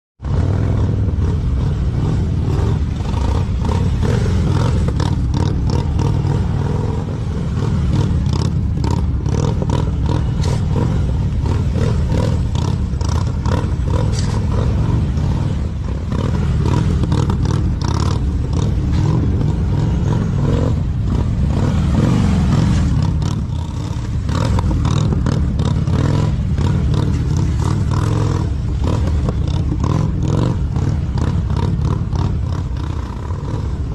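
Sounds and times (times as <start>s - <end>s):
motorcycle running: 0.2s - 33.9s.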